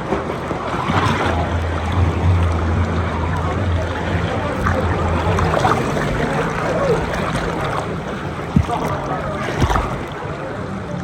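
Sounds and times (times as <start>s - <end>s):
faint background voices: 0.0s - 11.0s
water sloshing and splashing: 0.0s - 11.0s
brief thumps: 0.7s - 10.2s.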